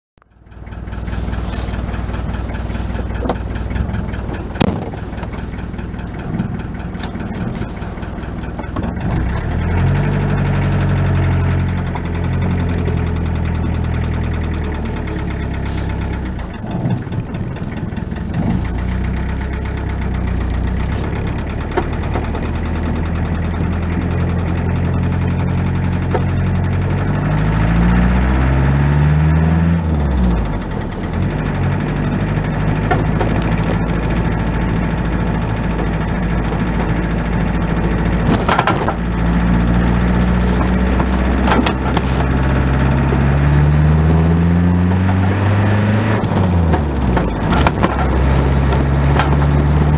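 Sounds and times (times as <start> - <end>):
diesel car engine running: 0.2 - 49.9.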